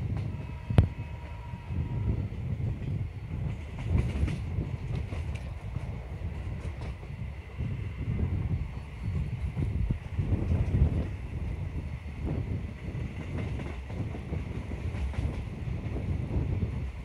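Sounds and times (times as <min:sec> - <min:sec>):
clickety-clack over rail joints: 0:00.0 - 0:01.4, 0:02.5 - 0:17.0
train wheels rumbling on rail: 0:00.0 - 0:17.0.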